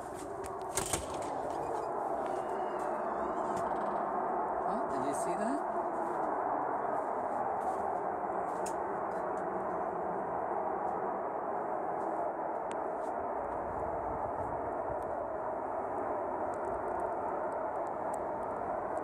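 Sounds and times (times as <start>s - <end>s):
loud hum from the sky: 0.0s - 19.0s.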